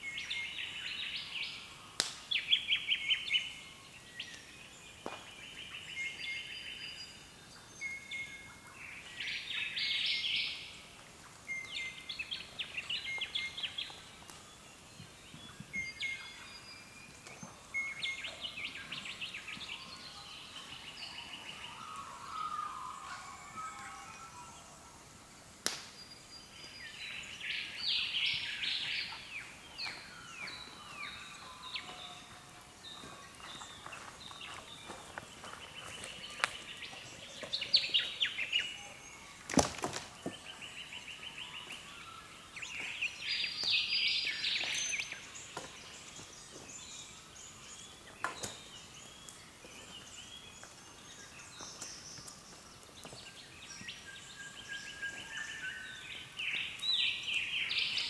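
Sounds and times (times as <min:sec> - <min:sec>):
birds calling: 0:07.6 - 0:25.1, 0:26.0 - 0:58.0.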